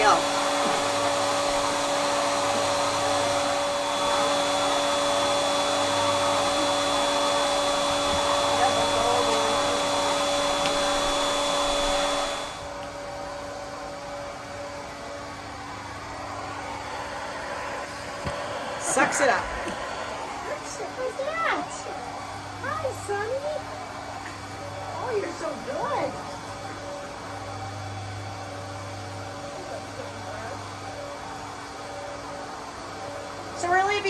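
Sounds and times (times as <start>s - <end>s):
pet grooming vacuum whirring: 0.0s - 34.0s.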